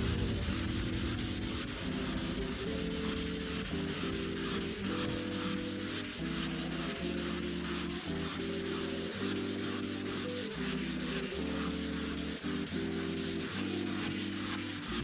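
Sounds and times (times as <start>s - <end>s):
abrasive pad rasping: 0.0s - 15.0s.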